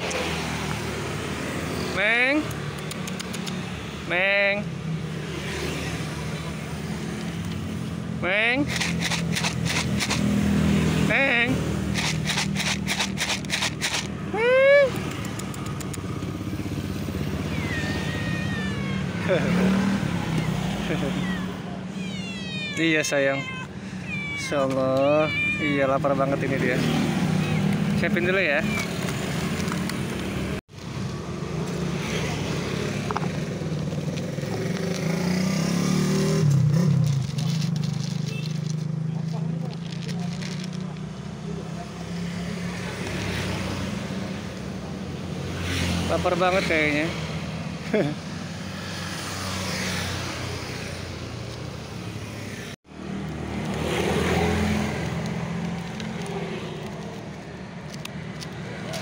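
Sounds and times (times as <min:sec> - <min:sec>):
vehicle engine passing: 0:05.1 - 0:59.0.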